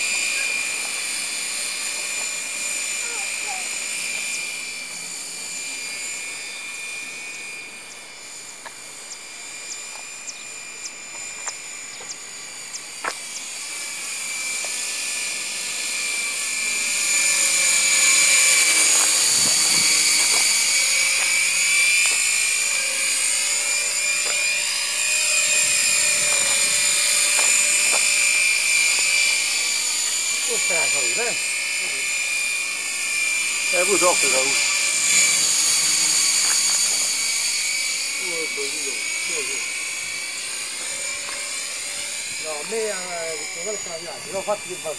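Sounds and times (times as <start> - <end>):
model helicopter whine: 0.0 - 44.9.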